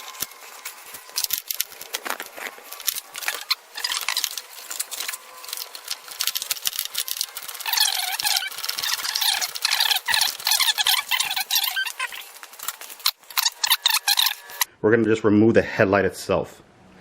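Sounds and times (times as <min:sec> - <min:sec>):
high squeaks: 0:00.0 - 0:14.7.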